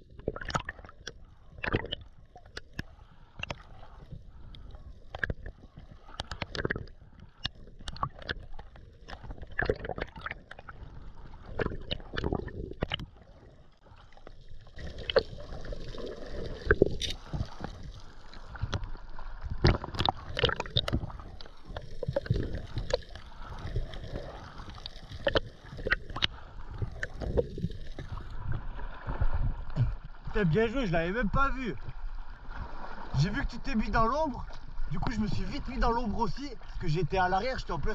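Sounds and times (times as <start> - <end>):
water sloshing and gurgling: 0.0 - 37.9.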